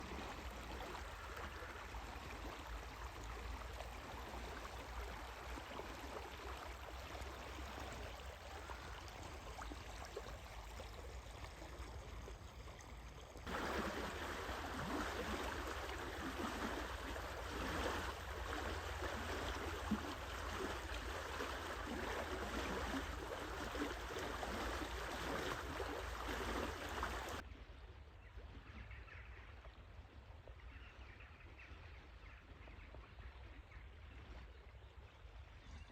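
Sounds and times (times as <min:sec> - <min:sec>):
small river flowing: 0:00.0 - 0:35.9.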